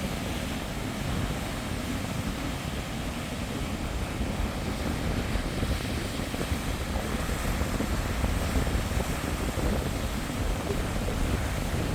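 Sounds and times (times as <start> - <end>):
heavy surf: 0.0 - 11.9
wind buffeting microphone: 0.0 - 11.9.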